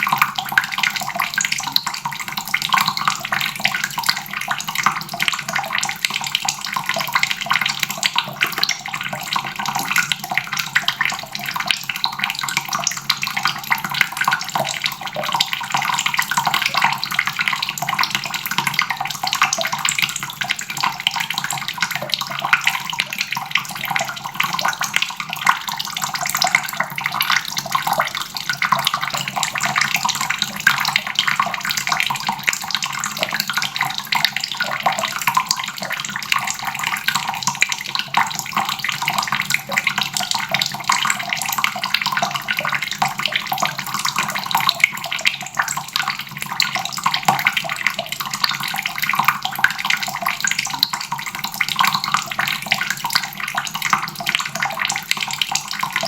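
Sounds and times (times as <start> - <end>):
tap water splashing into basin: 0.0 - 56.0.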